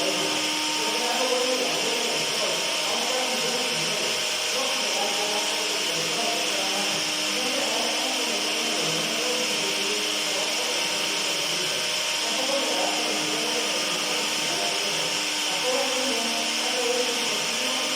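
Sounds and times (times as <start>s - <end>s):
electric blender running: 0.0s - 17.9s.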